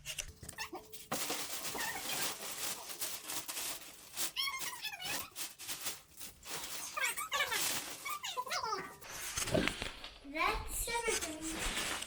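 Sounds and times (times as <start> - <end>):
cardboard and packing rustling: 0.0 - 12.0.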